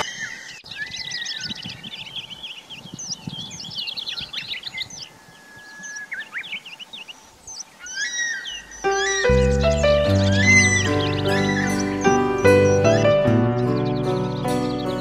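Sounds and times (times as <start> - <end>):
songbirds chirping and twittering: 0.0 - 15.0
whistled bird notes: 0.0 - 15.0.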